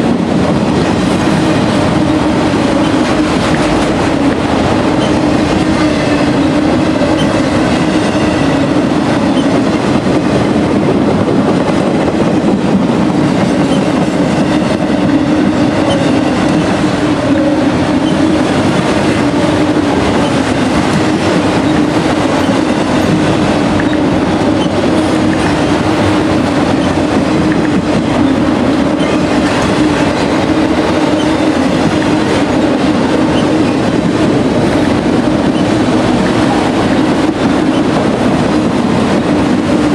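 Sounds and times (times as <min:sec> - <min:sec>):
freight train cars rolling past: 0:00.0 - 0:39.9.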